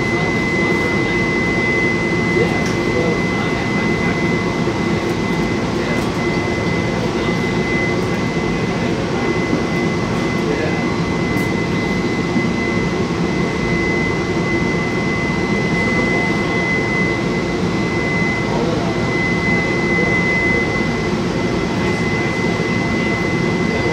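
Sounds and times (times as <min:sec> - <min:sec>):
constant high-pitched tone: 0:00.0 - 0:23.9.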